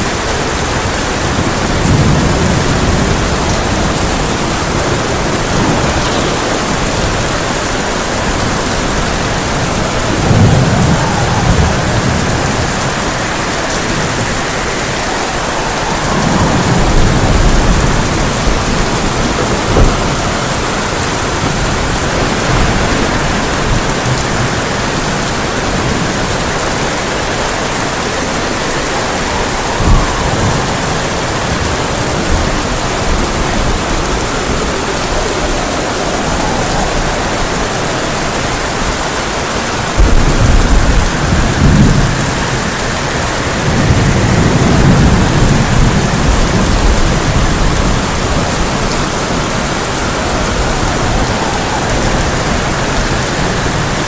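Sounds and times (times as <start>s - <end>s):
heavy rain on a tin roof: 0.0s - 54.0s
rolling thunder rumble: 0.0s - 54.0s
thunder crack: 0.4s - 54.0s.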